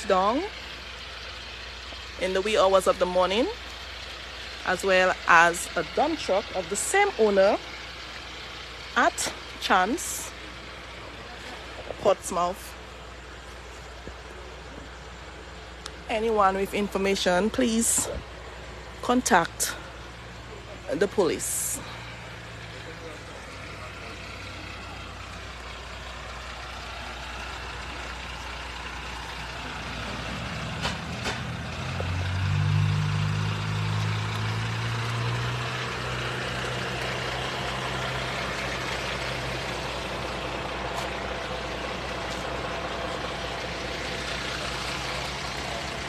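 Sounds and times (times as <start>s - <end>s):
heavy vehicle engine running: 0.0s - 46.0s.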